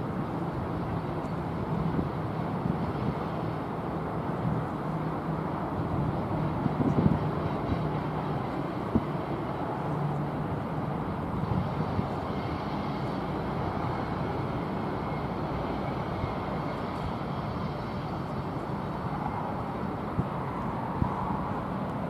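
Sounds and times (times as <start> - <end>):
freight train rumbling and rattling: 0.0 - 22.0.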